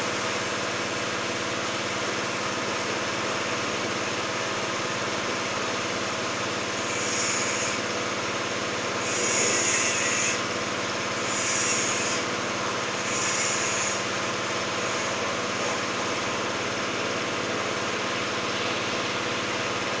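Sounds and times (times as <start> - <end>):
pressure washer running: 0.0 - 20.0.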